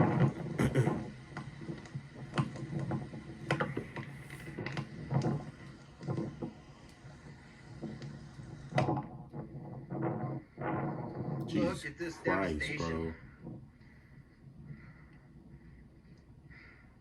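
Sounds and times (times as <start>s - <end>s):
faint knocks and clicks: 0.0s - 11.6s, 13.2s - 17.0s.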